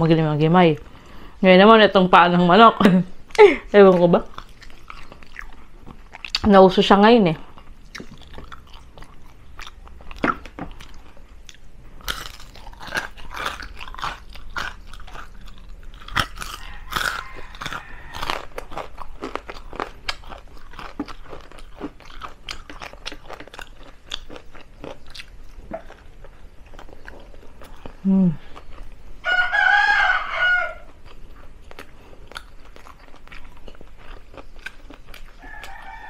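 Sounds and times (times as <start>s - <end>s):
crunching fried food: 3.8s - 36.0s.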